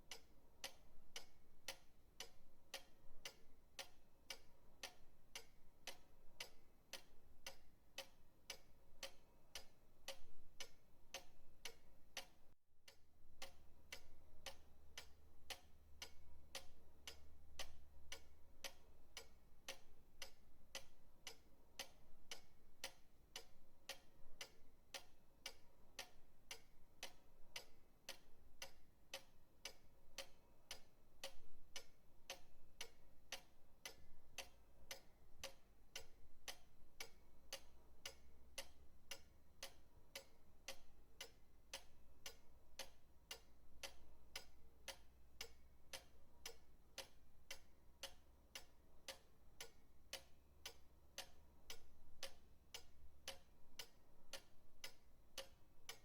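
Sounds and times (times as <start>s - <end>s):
pendulum clock ticking: 0.0s - 56.0s.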